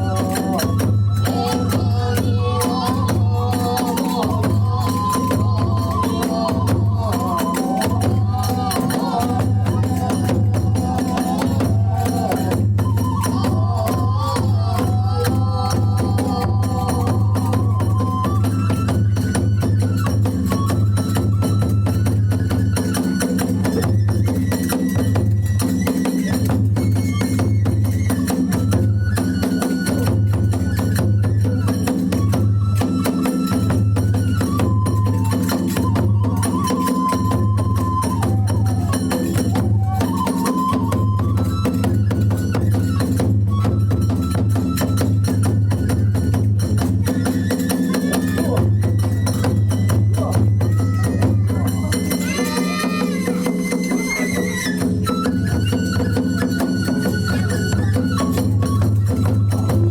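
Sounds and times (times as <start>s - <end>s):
thin sustained flute notes: 0.0s - 59.9s.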